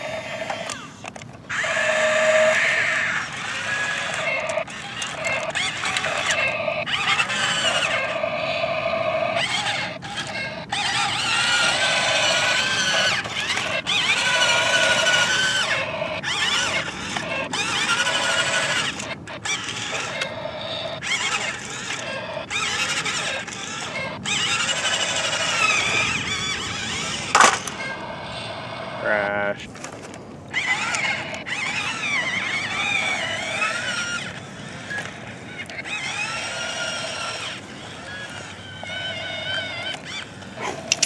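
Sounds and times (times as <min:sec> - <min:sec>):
toy electric motors whining: 0:00.0 - 0:41.0.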